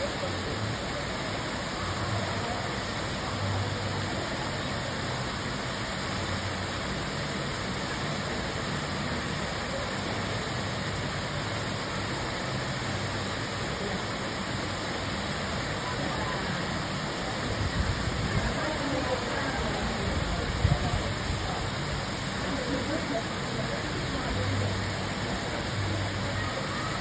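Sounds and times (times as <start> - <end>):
pool waterfall splashing: 0.0 - 27.0.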